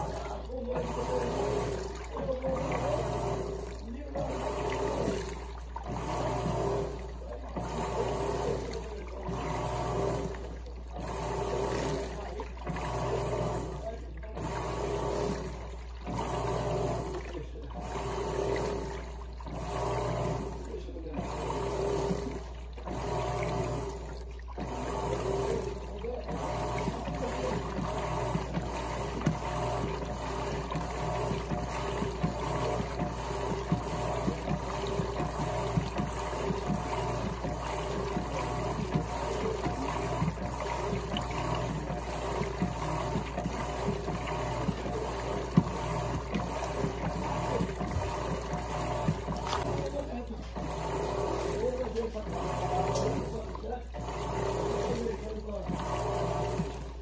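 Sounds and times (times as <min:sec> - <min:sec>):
washing machine motor hum: 0:00.0 - 0:57.0
water sloshing in drum: 0:00.0 - 0:57.0.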